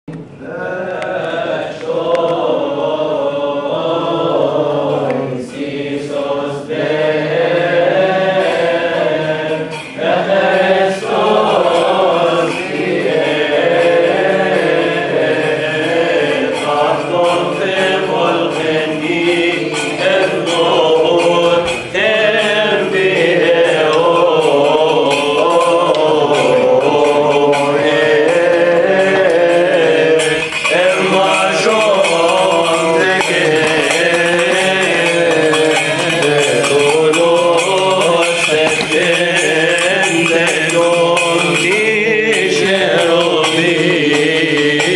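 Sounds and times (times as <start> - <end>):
light rhythmic strikes: 0.1 - 44.9
men chanting in unison: 0.4 - 44.9.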